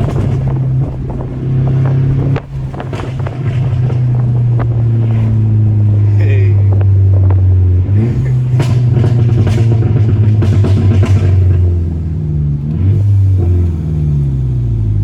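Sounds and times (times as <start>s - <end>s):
car engine accelerating: 0.0s - 15.0s
exhaust pops and crackles: 0.0s - 15.0s.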